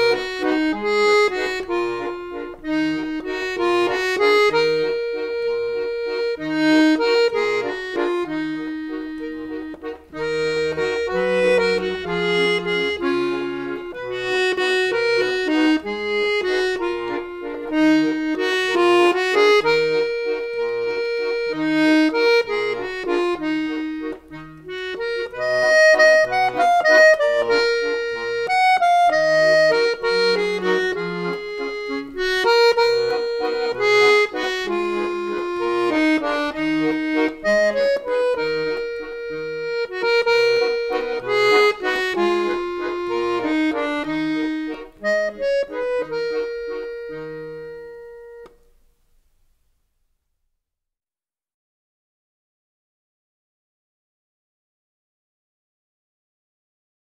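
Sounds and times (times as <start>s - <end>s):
accordion melody with bass notes: 0.0s - 49.8s.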